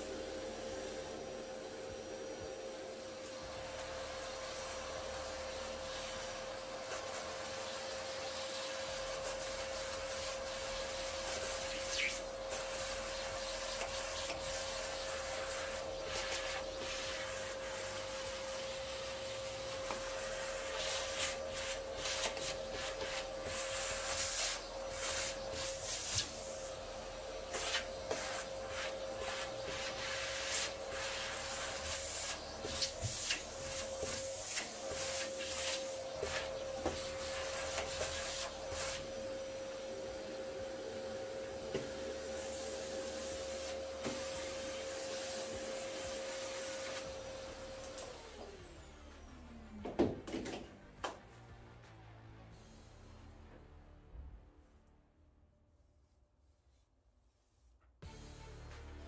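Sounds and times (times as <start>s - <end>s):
vacuum cleaner whine: 0.0s - 53.6s.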